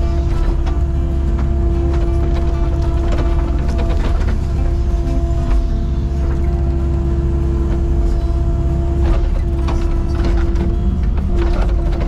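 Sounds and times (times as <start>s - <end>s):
excavator engine drone: 0.0s - 12.0s
high hum: 0.0s - 12.0s.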